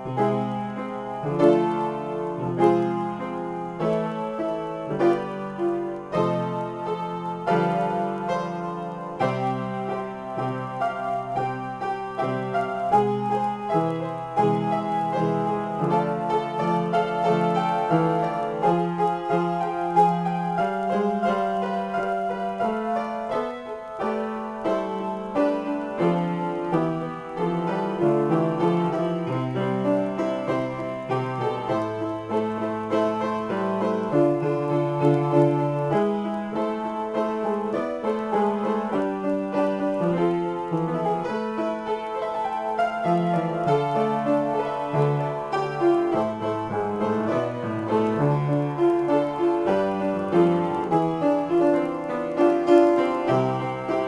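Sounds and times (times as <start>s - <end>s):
solo piano improvisation: 0.0s - 54.0s.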